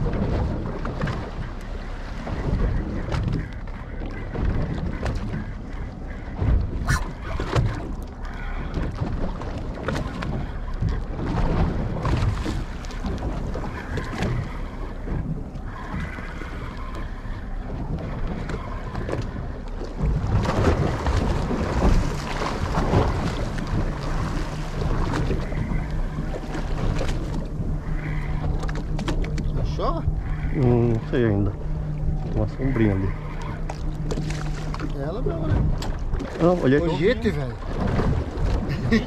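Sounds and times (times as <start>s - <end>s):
water slapping boat hull: 0.0s - 39.0s
wind buffeting microphone: 0.0s - 39.0s.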